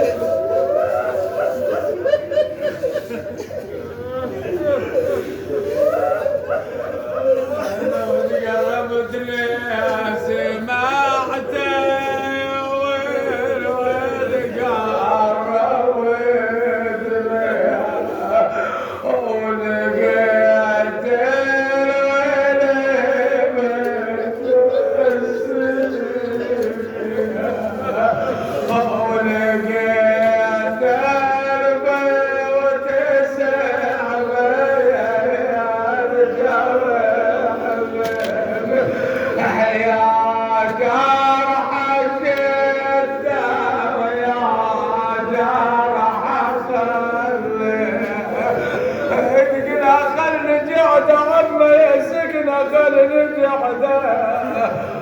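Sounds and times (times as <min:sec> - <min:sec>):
man chanting a lament: 0:00.0 - 0:55.0.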